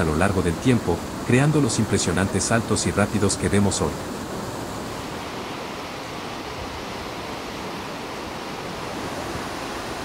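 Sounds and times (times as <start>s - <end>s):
water rushing over rapids: 0.0s - 10.0s.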